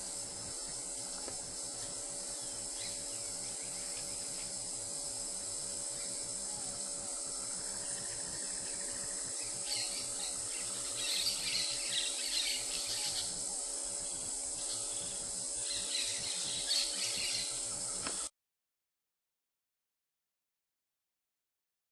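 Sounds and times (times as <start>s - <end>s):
birds chirping: 0.0s - 18.3s
insects droning: 0.0s - 18.3s.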